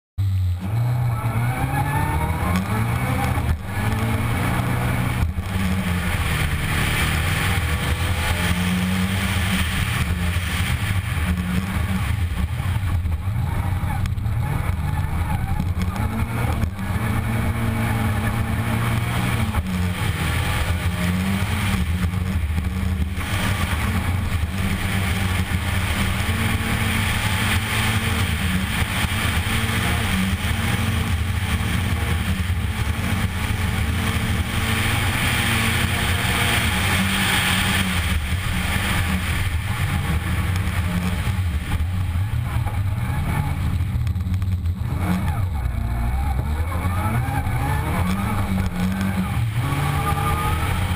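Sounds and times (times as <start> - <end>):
rally car engine revving: 0.2 - 50.9.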